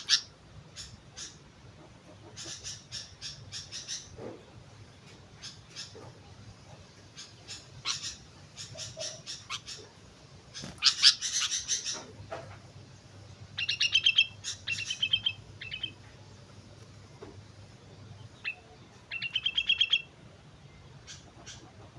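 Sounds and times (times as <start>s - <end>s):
bird chirping: 2.0s - 4.3s, 5.0s - 21.9s.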